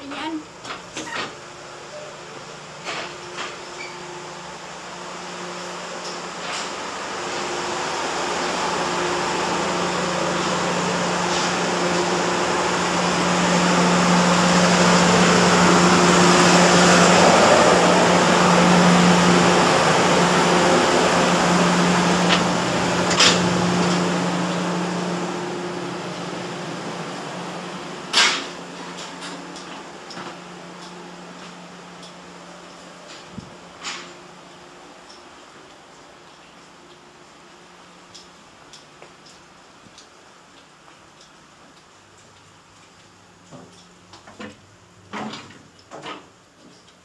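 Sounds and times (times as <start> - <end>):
train carriage machinery hum: 0.0 - 47.0.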